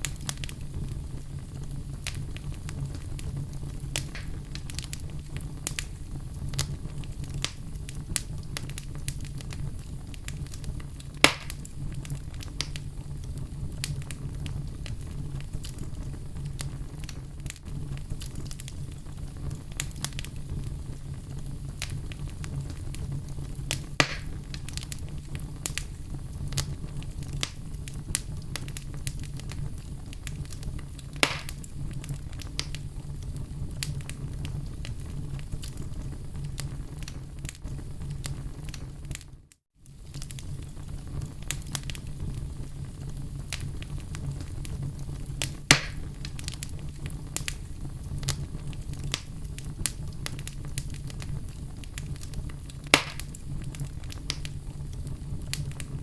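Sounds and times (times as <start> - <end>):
fire burning in fireplace: 0.0 - 56.0
fire crackling and popping: 0.0 - 56.0.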